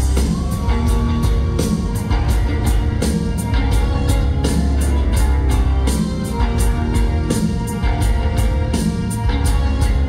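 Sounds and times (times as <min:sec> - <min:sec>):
drum kit beat: 0:00.0 - 0:10.0
electric guitar: 0:00.0 - 0:10.0
heavy bass line: 0:00.0 - 0:10.0.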